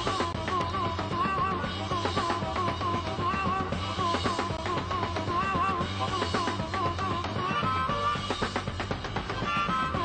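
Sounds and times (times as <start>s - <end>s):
harmonica wailing: 0.0s - 10.0s
pounding drum kit: 0.0s - 10.0s.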